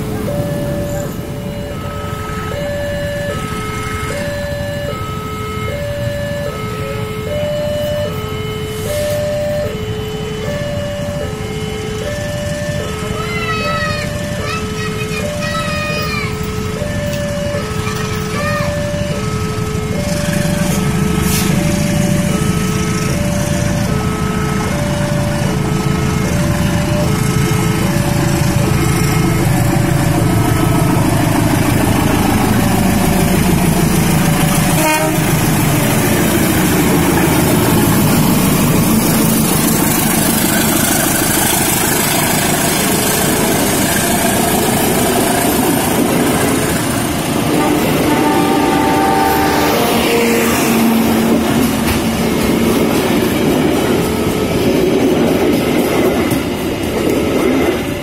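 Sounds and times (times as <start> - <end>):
two-tone warning signal: 0.0 - 56.4
train passing rumble: 0.0 - 58.0.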